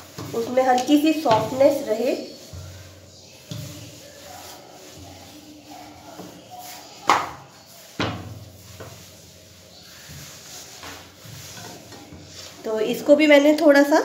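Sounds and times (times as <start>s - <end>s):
rolling pin rolling dough: 0.0s - 13.9s.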